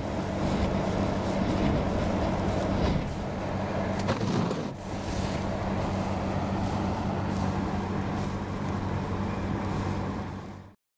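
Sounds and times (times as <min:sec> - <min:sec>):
car engine humming: 0:00.0 - 0:10.8
wind and rain against car: 0:00.0 - 0:10.8.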